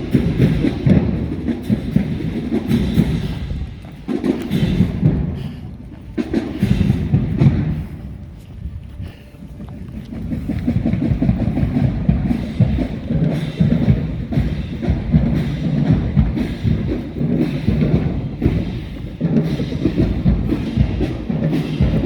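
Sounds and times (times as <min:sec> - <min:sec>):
drumline on snare and bass drums: 0:00.0 - 0:05.6, 0:06.2 - 0:08.0, 0:10.2 - 0:22.0.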